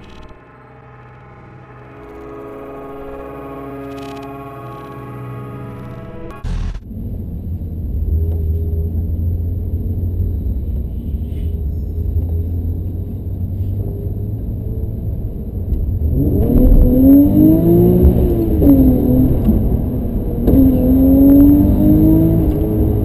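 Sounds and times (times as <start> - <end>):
car engine rumbling and revving: 0.0 - 23.0.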